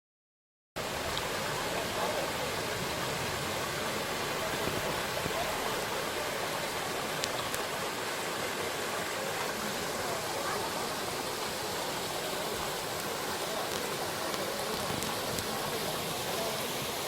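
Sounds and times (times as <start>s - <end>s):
stream flowing water: 0.8s - 17.0s.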